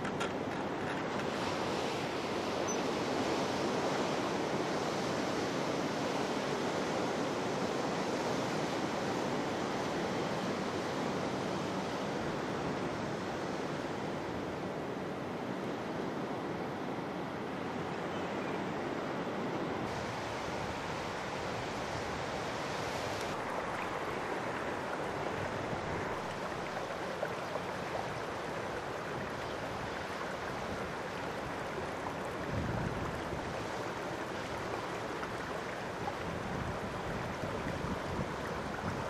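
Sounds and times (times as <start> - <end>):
sea surf and waves: 0.0 - 39.0.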